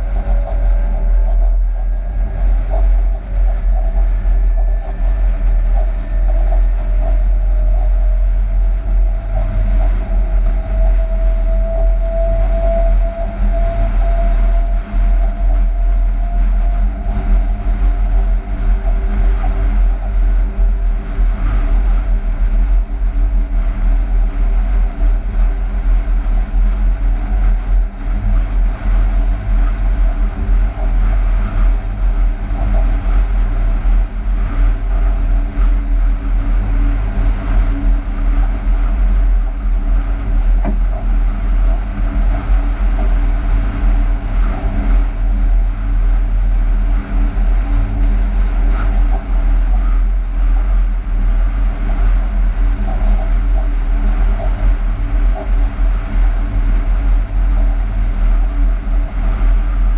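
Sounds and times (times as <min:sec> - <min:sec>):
locomotive cab rumble and hum: 0:00.0 - 0:59.9.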